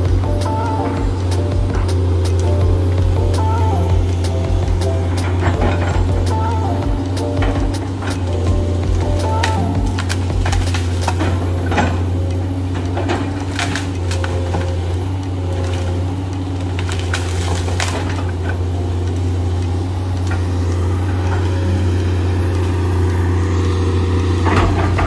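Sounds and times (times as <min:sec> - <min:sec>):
excavator diesel engine running: 0:00.0 - 0:25.0
wood cracking and snapping: 0:00.0 - 0:25.0.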